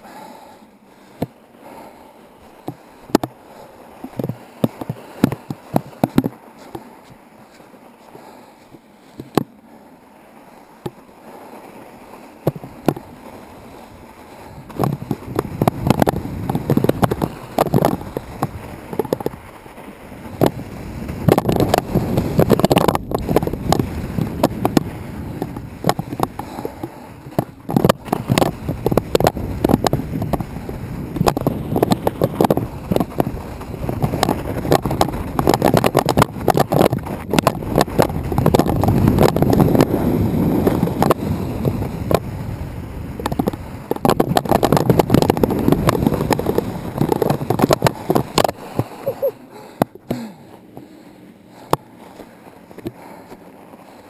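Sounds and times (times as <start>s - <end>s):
wind buffeting microphone: 10.5s - 54.0s.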